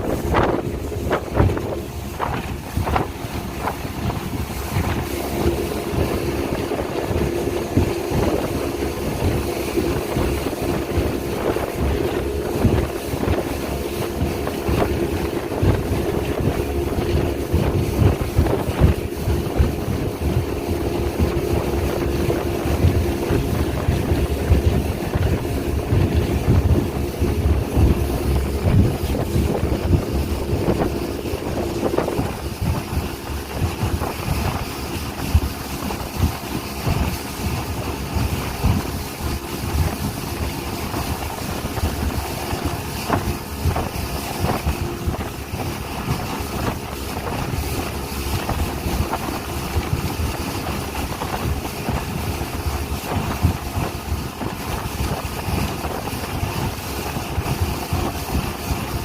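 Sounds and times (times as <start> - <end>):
speedboat engine running: 0.0 - 59.0
wind buffeting microphone: 0.0 - 59.0.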